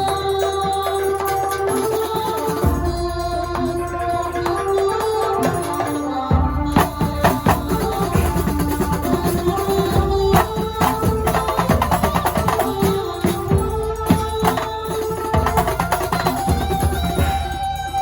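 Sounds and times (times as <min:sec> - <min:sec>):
hand and frame drums: 0:00.0 - 0:18.0
held melody line: 0:00.0 - 0:18.0.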